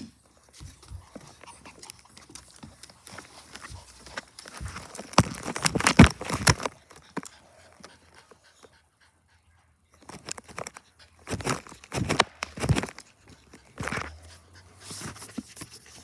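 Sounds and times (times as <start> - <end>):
dog panting: 0.6 - 16.0.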